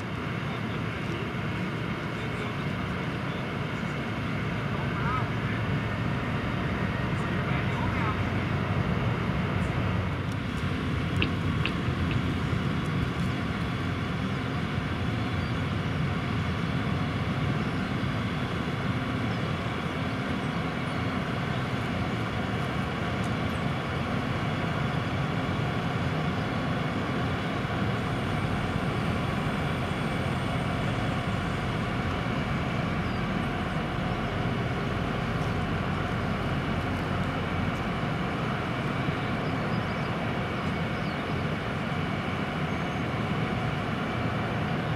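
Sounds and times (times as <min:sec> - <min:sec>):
fire truck engines running: 0:00.0 - 0:44.9.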